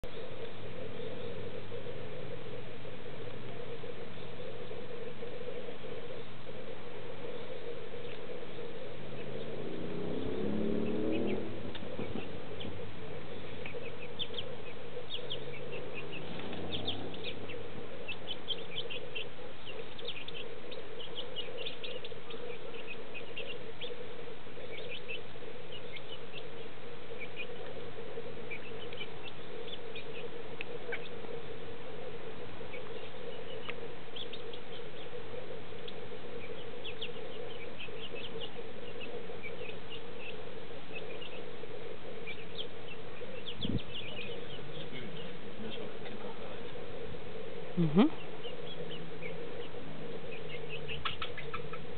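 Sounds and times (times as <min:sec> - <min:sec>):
rising low drone: 0:00.0 - 0:51.9
steady low hum: 0:00.0 - 0:51.9
young hens peeping: 0:00.0 - 0:51.9.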